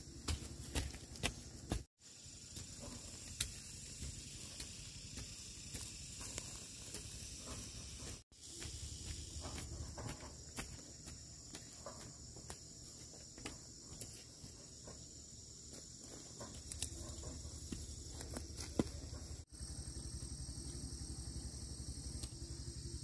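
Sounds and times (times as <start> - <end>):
footsteps crunching on dry ground: 0.0 - 15.0, 15.6 - 19.5
insects chirring: 0.0 - 23.0.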